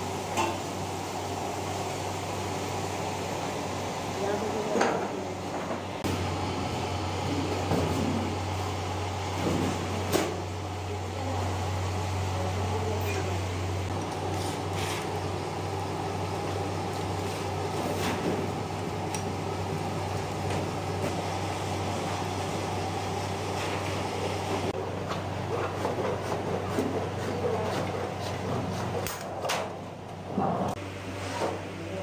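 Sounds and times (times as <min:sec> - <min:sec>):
low electrical hum of machinery: 0:00.0 - 0:32.0.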